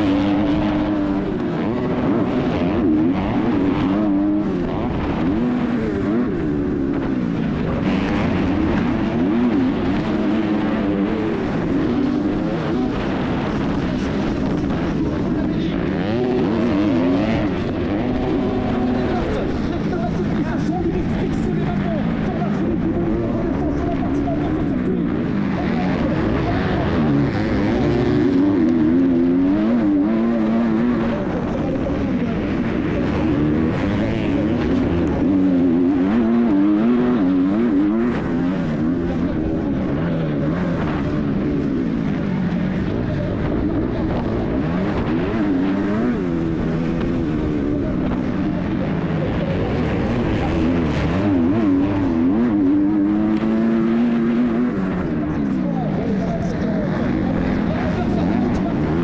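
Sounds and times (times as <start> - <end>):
motocross bike engine racing: 0.0 - 59.0.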